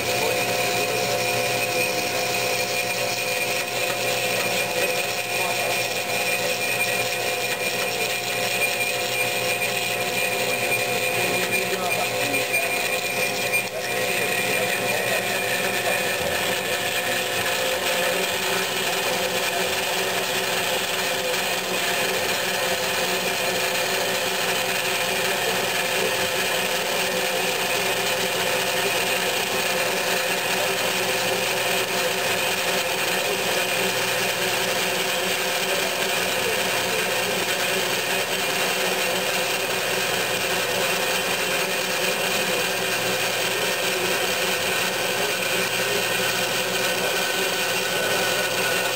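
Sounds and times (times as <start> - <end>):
band saw cutting metal tube: 0.0 - 48.9.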